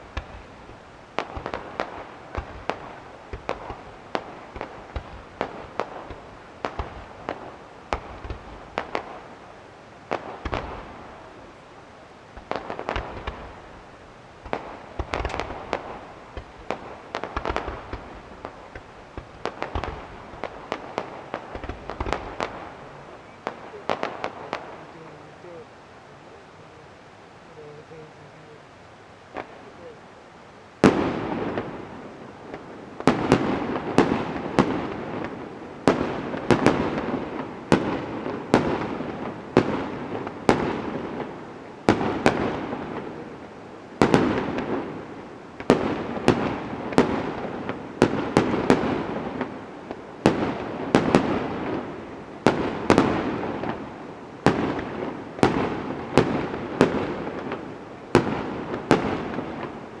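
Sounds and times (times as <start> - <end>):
fireworks bursting with bangs: 0.0 - 28.6, 29.3 - 30.0, 30.8 - 60.0
fireworks crackling: 0.0 - 60.0.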